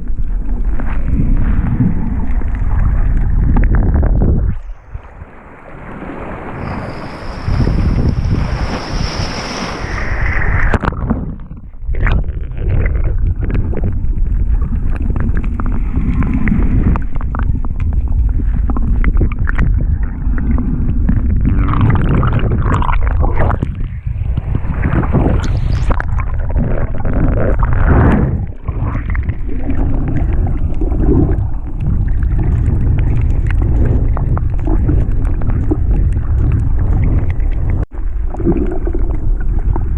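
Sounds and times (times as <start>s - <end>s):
low underwater rumble: 0.0s - 39.9s.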